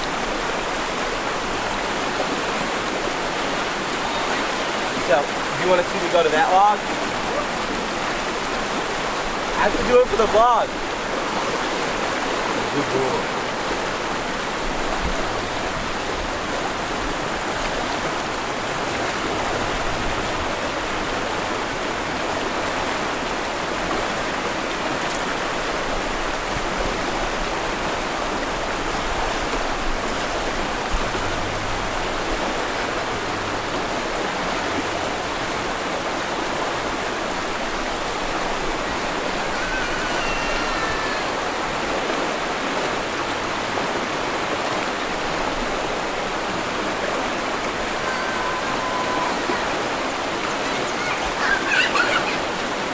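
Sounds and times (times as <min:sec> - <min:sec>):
rushing water: 0:00.0 - 0:52.9.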